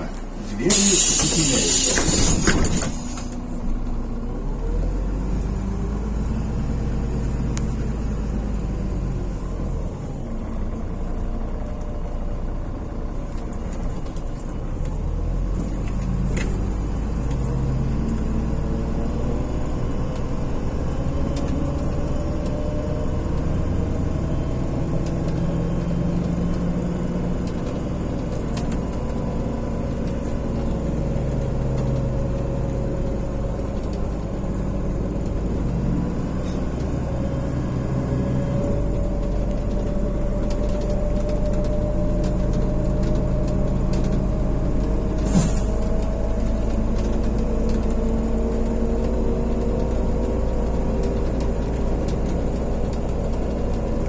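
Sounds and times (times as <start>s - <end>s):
bus engine rumble: 0.0s - 54.0s
faint drivetrain whine: 0.0s - 54.0s.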